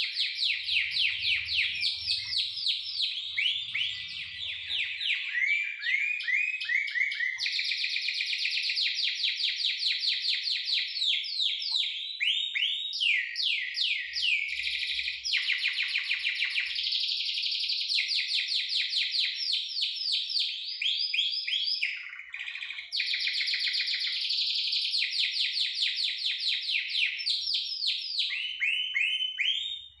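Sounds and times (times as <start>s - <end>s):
canary singing trills: 0.0s - 30.0s.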